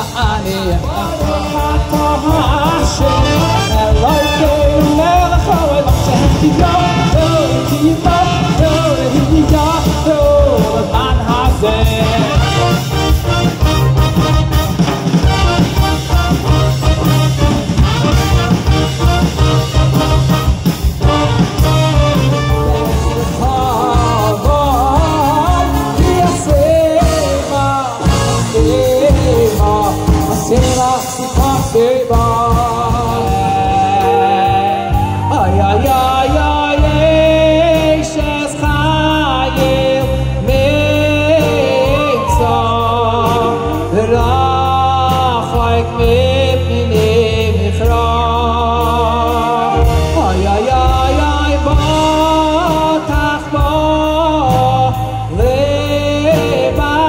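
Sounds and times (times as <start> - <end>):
live band playing dance music: 0.0 - 57.0
man singing: 0.0 - 57.0.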